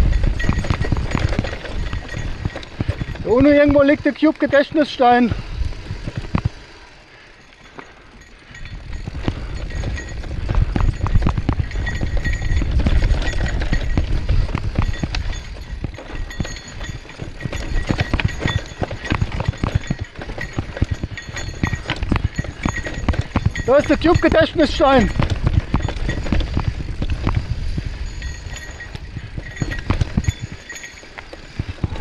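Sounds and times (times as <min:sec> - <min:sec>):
wind on microphone: 0:00.0 - 0:03.8, 0:05.2 - 0:06.7, 0:08.4 - 0:32.0
bike rattling on rough trail: 0:00.0 - 0:32.0.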